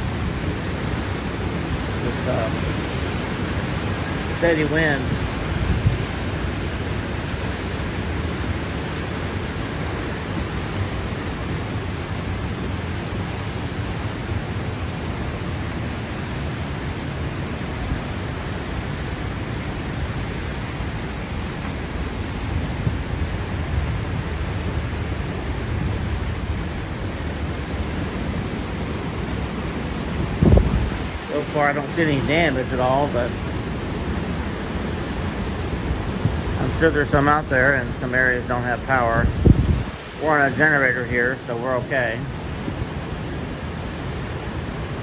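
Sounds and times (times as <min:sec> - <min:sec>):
hurricane wind buffeting microphone: 0:00.0 - 0:45.0.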